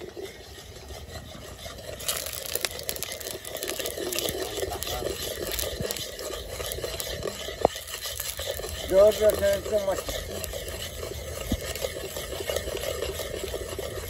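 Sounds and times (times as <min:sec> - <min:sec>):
metal spoon scraping a pot: 0:00.0 - 0:14.0
sugar crackling in hot oil: 0:00.0 - 0:14.0.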